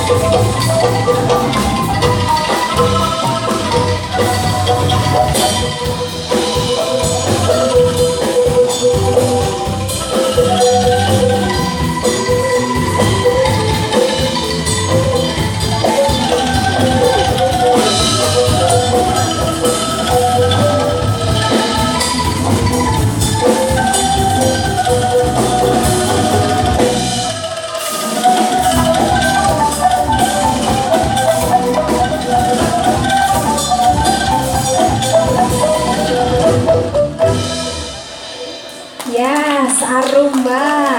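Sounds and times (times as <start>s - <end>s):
bass: 0.0s - 27.7s, 28.4s - 40.9s
shaken bamboo tubes melody: 0.0s - 39.6s
drum kit: 0.0s - 40.9s.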